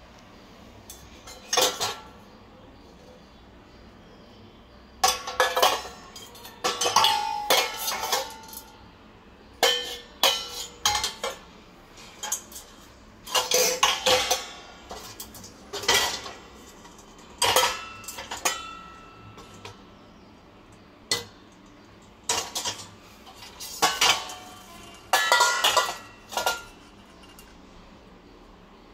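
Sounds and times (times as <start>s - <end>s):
metal bowls and pots clanking: 0.8s - 3.8s, 4.9s - 27.9s.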